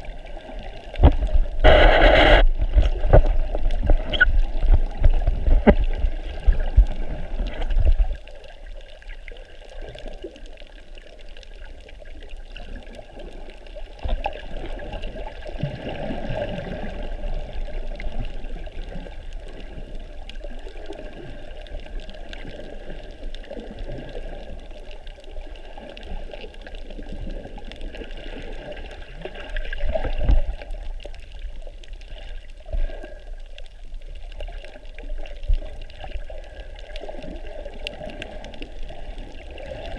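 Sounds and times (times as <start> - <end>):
water sloshing and trickling: 2.3 - 39.9.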